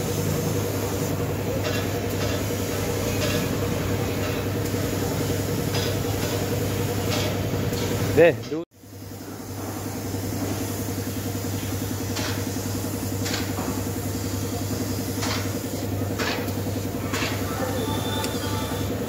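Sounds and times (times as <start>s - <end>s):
air compressor pulsing: 0.0s - 19.0s.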